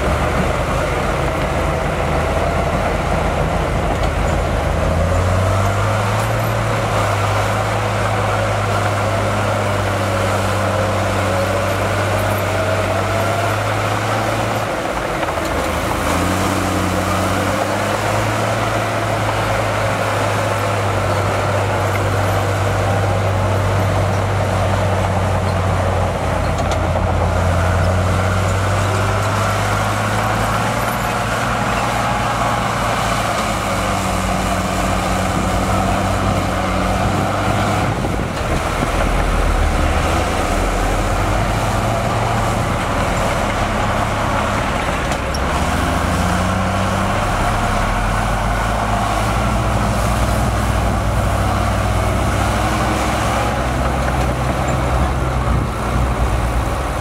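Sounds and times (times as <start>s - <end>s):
diesel engine droning under load: 0.0s - 57.0s.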